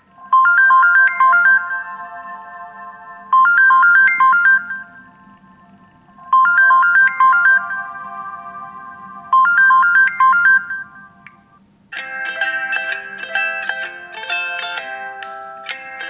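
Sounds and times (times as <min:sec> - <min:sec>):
smartphone ringtone chime melody: 0:00.2 - 0:05.1, 0:06.2 - 0:08.3, 0:09.2 - 0:11.2, 0:11.9 - 0:16.0.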